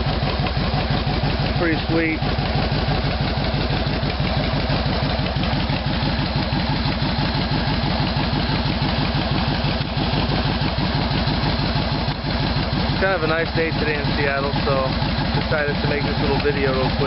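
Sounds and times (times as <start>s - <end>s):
motorcycle engine idling loudly: 0.0s - 17.0s.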